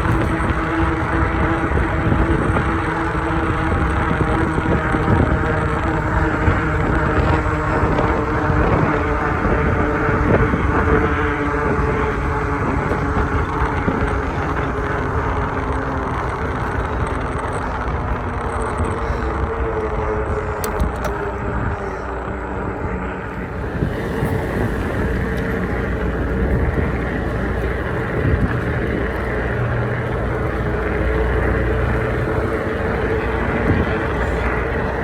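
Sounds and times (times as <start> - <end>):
passing city traffic: 0.0 - 35.0
wind rumble on microphone: 0.0 - 35.0.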